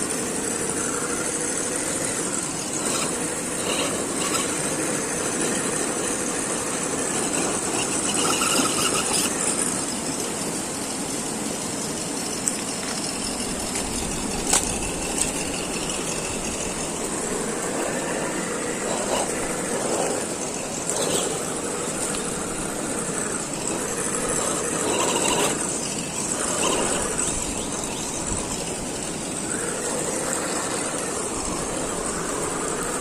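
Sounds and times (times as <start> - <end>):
toy car motor whirring: 0.0 - 33.0.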